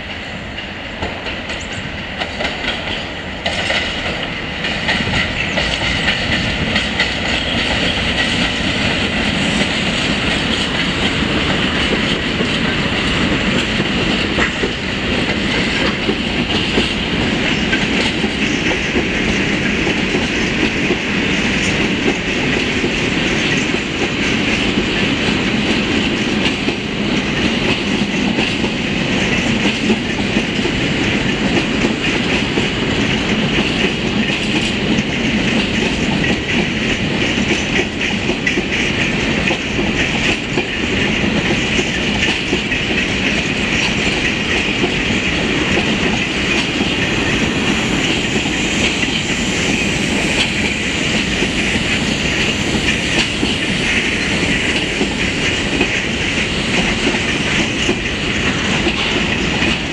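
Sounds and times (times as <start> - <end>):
freight train rumble: 0.0 - 59.9
train wheels clacking over rail joints: 0.1 - 59.9.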